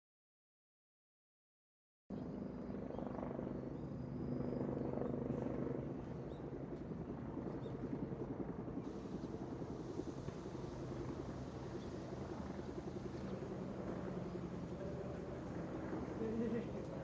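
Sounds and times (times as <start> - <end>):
helicopter rotor and turbine: 2.1 - 17.0.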